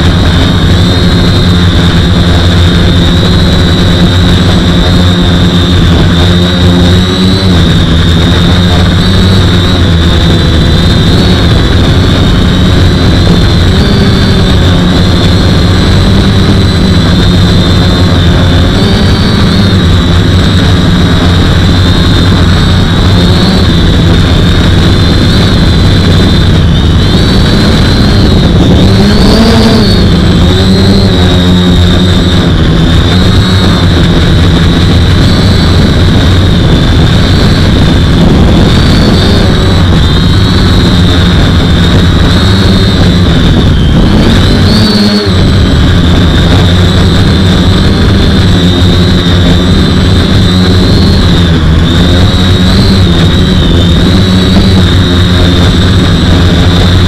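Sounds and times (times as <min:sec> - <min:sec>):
drone motors whining: 0:00.0 - 0:57.0
low drone: 0:00.0 - 0:57.0.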